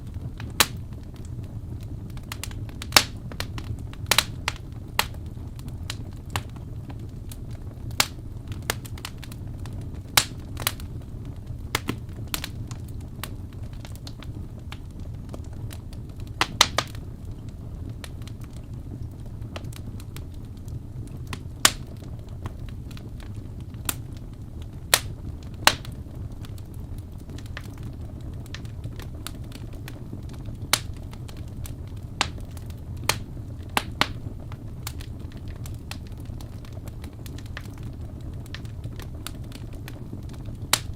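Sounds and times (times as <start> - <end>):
fire crackles and pops: 0.0 - 40.9
fire flames rumbling: 0.0 - 40.9.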